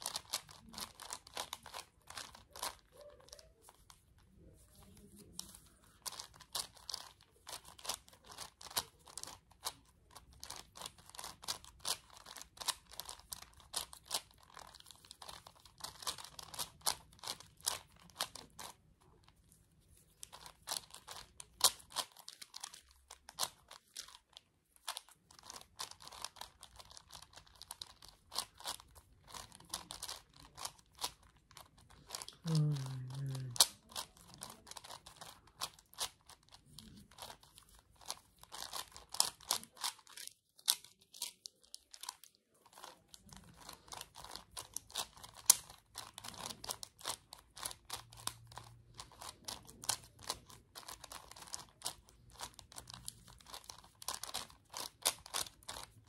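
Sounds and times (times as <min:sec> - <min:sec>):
puzzle cube clicking and rattling: 0:00.0 - 0:56.0.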